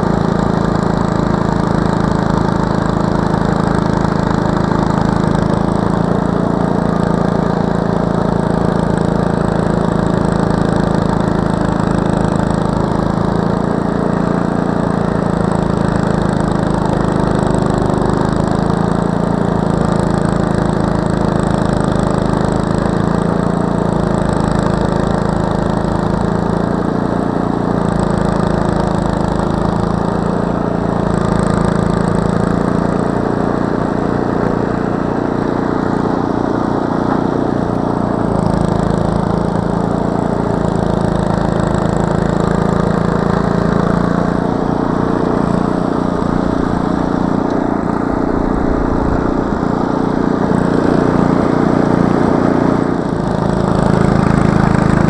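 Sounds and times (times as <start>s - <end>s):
snowblower engine running: 0.0s - 55.0s.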